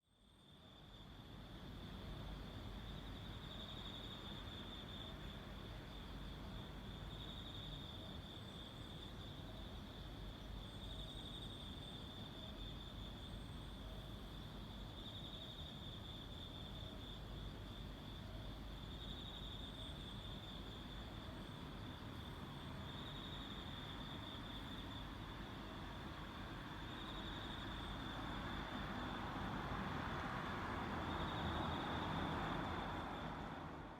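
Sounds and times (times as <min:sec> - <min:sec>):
faint insect calls: 0:00.0 - 0:33.9
low background hiss: 0:00.2 - 0:33.9.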